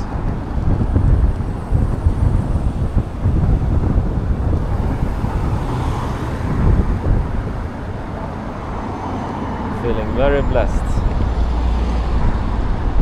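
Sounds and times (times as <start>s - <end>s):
road traffic: 0.0s - 13.0s
wind buffeting microphone: 0.0s - 13.0s.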